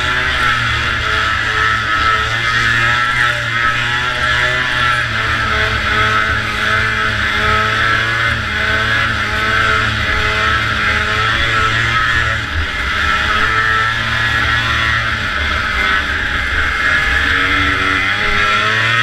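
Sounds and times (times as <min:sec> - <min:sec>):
snowmobile engine running hard: 0:00.0 - 0:19.0.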